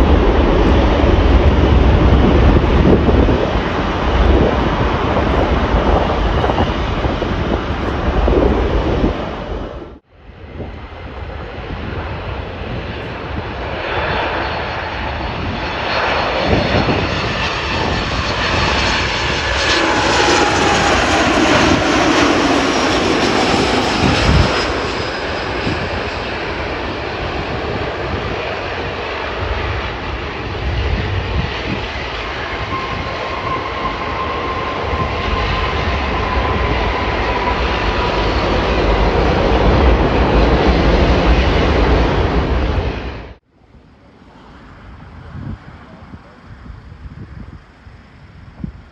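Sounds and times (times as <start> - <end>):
jet airliner engines roaring past: 0.0 - 48.9.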